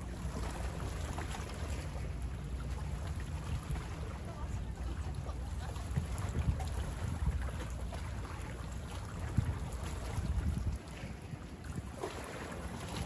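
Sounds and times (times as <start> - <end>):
small waves lapping on shore: 0.0 - 13.0
wind rumble on microphone: 0.0 - 13.0.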